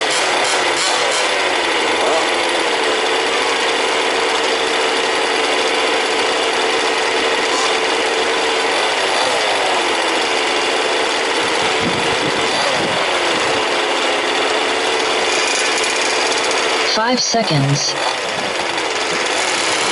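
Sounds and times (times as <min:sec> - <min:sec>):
small two-stroke engines buzzing: 0:00.0 - 0:16.9, 0:17.9 - 0:19.9.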